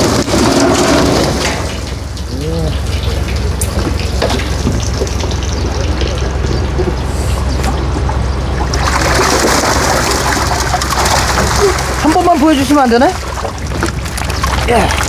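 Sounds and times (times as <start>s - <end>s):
low steady hum: 0.0s - 15.0s
water pouring and splashing: 0.0s - 15.0s.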